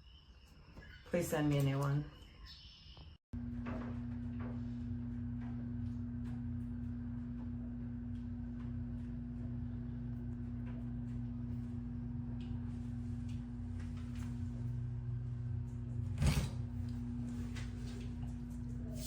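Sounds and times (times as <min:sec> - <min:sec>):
steady low hum: 0:03.4 - 0:19.0.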